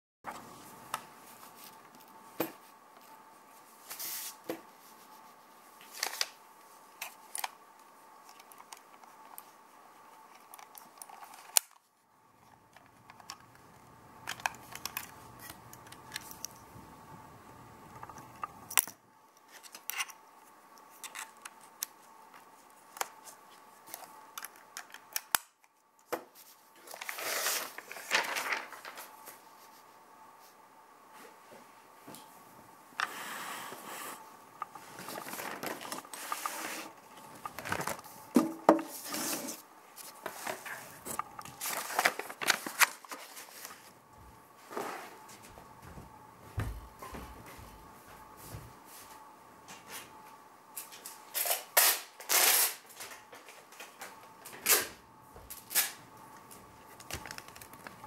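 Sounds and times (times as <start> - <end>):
faint electrical whine: 0.3 - 58.0.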